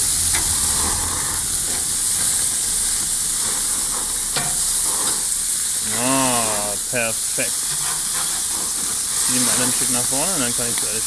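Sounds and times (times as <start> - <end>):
sausages sizzling on a grill: 0.0 - 11.0.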